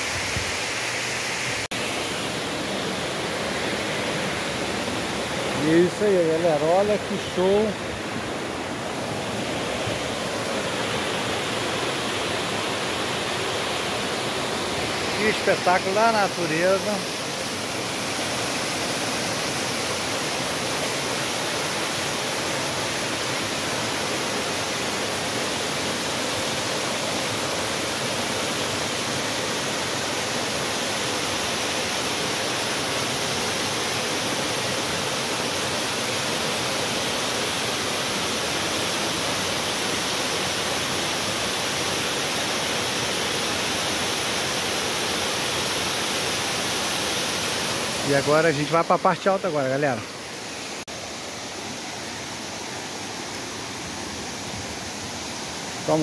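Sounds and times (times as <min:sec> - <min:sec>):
waterfall rushing into pool: 0:00.0 - 0:56.0.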